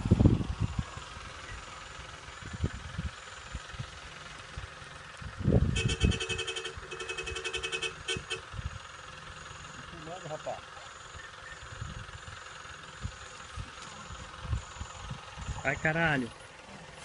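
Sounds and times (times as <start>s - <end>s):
distant engine running: 0.0s - 17.0s.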